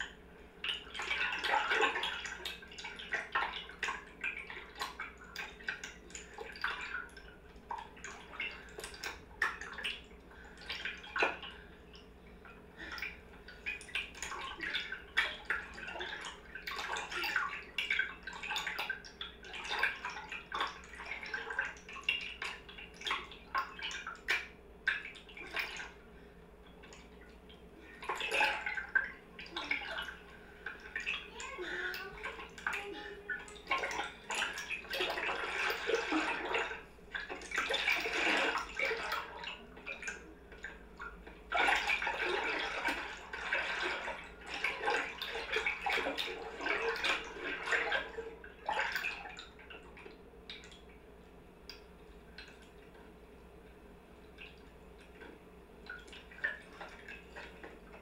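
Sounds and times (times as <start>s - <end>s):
water splashing and dripping: 0.0s - 51.0s, 53.7s - 58.0s
steady low hum: 0.0s - 58.0s.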